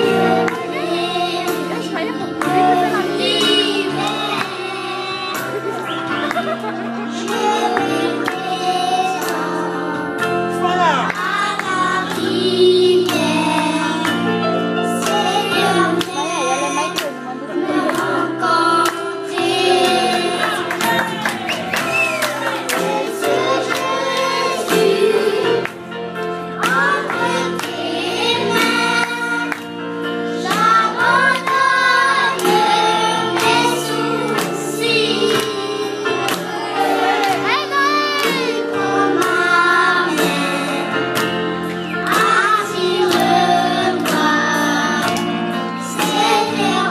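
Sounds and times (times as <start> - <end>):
children singing gospel song: 0.0 - 46.9.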